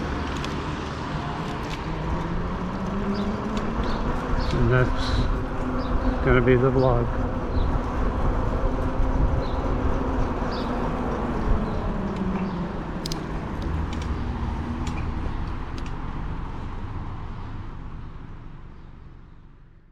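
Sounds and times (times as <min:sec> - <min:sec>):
road and wind noise: 0:00.0 - 0:19.9.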